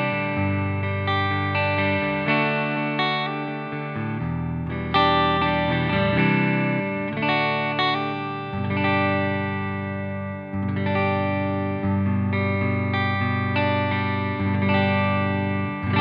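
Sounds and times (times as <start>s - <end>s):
electric guitar chords ringing: 0.0s - 16.0s.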